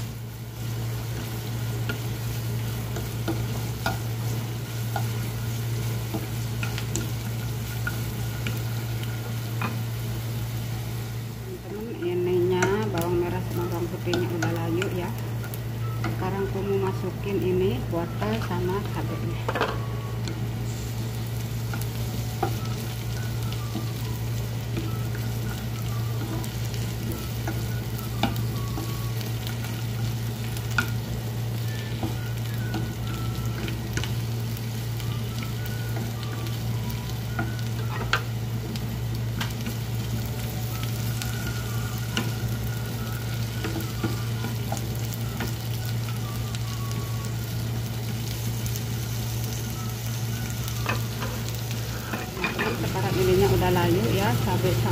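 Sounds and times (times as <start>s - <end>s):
vegetables sizzling in hot oil: 0.0s - 54.9s.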